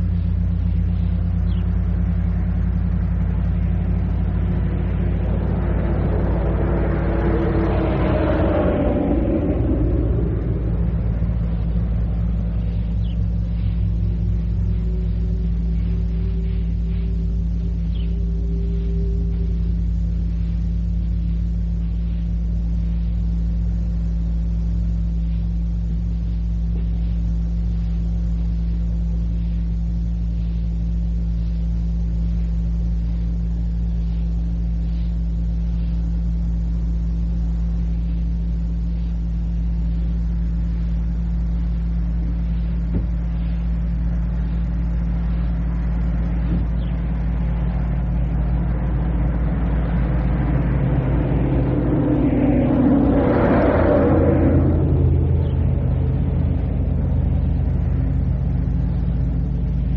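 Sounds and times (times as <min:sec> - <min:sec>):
tape hiss: 0:00.0 - 0:53.1
low droning hum: 0:00.0 - 0:59.9.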